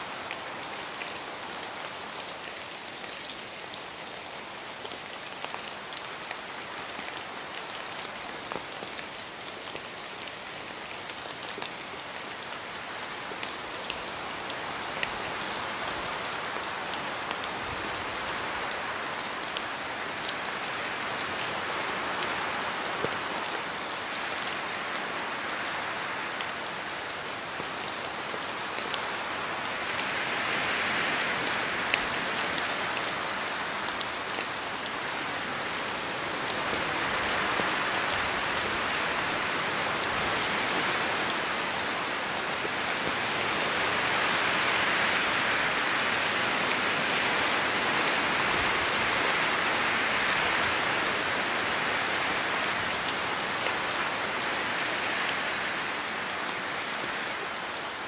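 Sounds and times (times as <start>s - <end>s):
rain pattering on surfaces: 0.0s - 58.0s.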